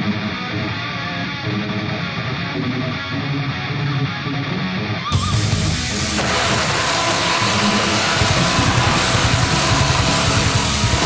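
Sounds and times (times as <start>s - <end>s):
strummed guitar music: 0.0s - 11.0s.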